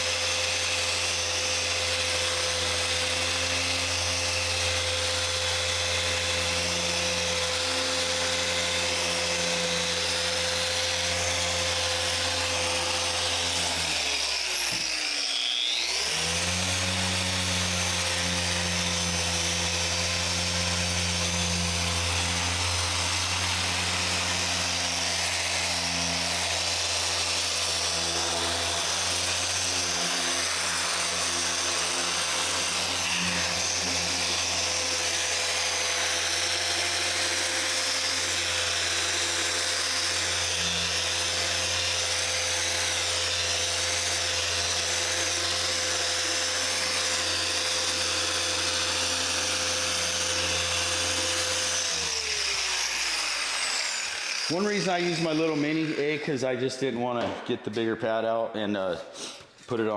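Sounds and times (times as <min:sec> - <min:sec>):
orbital polisher running: 0:00.0 - 0:56.4.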